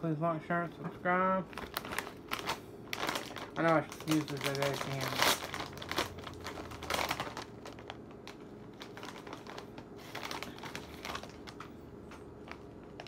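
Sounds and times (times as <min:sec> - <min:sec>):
plastic chip bag crinkling: 0:01.3 - 0:13.0.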